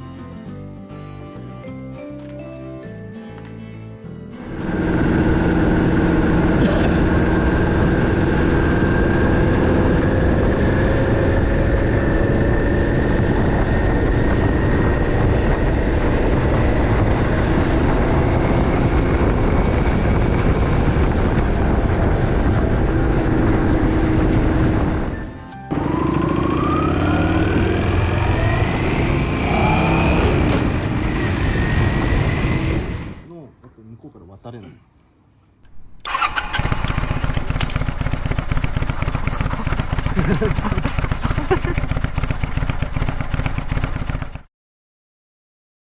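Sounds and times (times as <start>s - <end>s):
motorcycle engine drone: 4.4s - 33.3s, 36.0s - 44.5s
wind and road noise: 4.4s - 33.3s, 35.7s - 44.5s.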